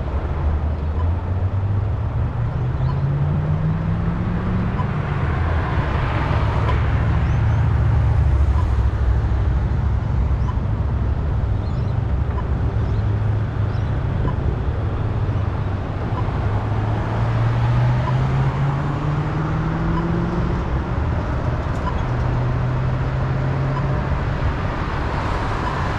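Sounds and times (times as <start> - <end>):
road traffic rumble: 0.0 - 25.9.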